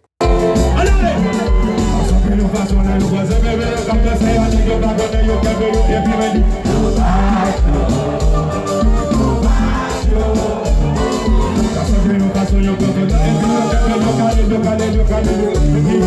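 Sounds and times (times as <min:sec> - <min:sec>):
live dance band music: 0:00.0 - 0:16.0
man singing into microphone: 0:00.7 - 0:16.0.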